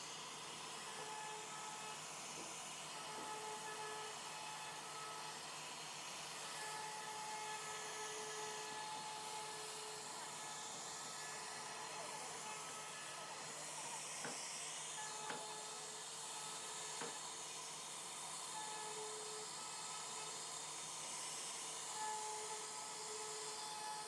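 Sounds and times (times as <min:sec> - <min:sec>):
router carving wood hiss: 0:00.0 - 0:24.0.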